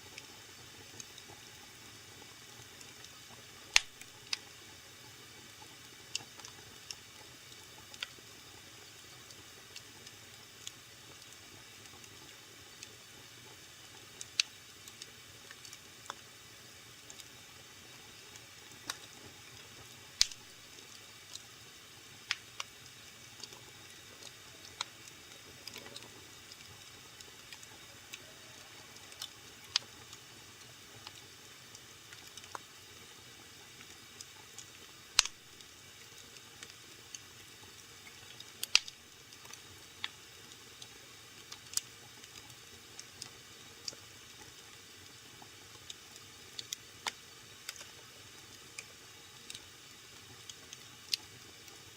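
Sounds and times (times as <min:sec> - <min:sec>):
wood fire crackling: 0:00.1 - 0:51.9.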